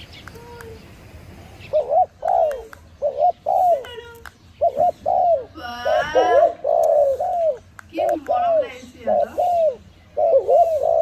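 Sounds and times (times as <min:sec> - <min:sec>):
doves cooing: 0:00.8 - 0:11.0.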